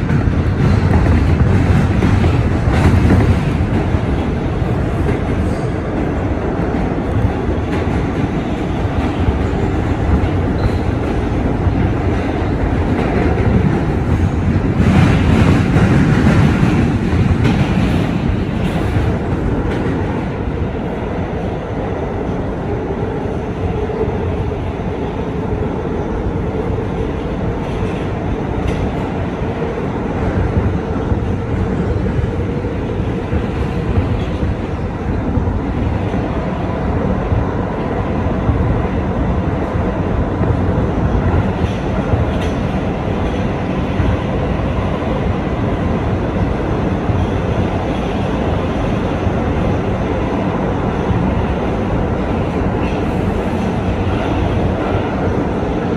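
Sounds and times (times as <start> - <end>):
subway train rumbling in tunnel: 0.0 - 55.9.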